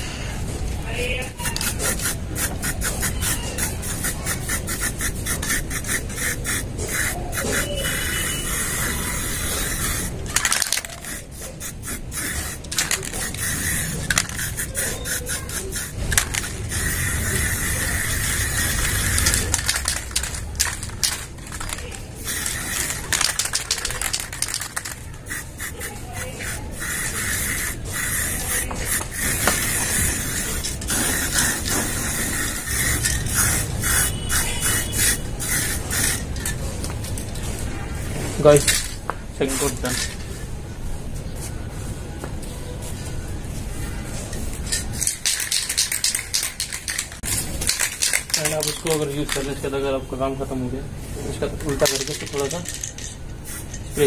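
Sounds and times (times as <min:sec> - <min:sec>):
spray paint can hissing: 0:01.3 - 0:37.5, 0:44.3 - 0:49.7, 0:51.6 - 0:54.0.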